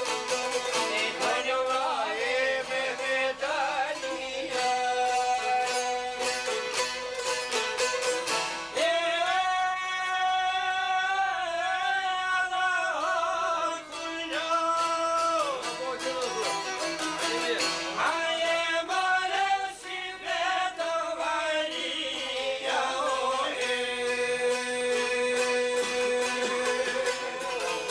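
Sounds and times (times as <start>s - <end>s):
plucked lutes: 0.0s - 9.7s, 13.0s - 19.8s, 21.2s - 27.9s.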